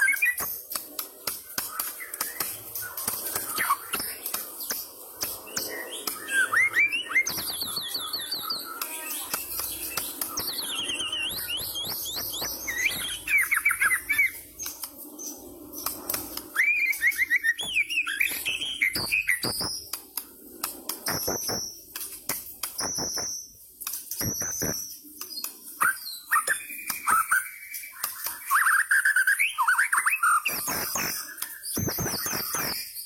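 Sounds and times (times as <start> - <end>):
bird singing whistled notes: 0.0 - 20.0, 21.0 - 33.0
sharp bird clicks: 0.0 - 33.0.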